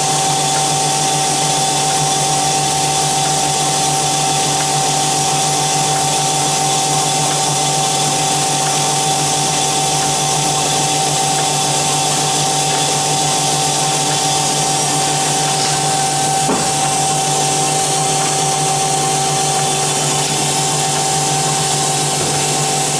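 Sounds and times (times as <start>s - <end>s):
bandsaw humming and whining: 0.0s - 22.9s.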